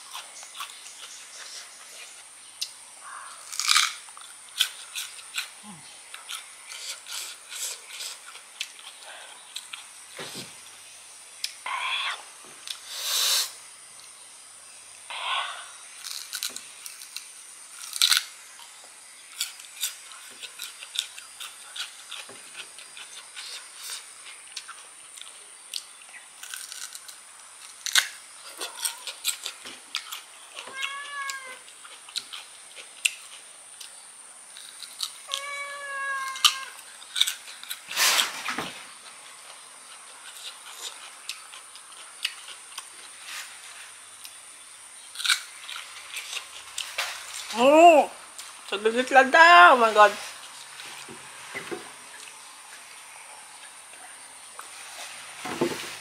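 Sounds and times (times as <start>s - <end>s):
crunching and chewing fruit: 0.0s - 12.0s, 12.6s - 13.3s, 15.9s - 49.2s, 49.8s - 56.0s.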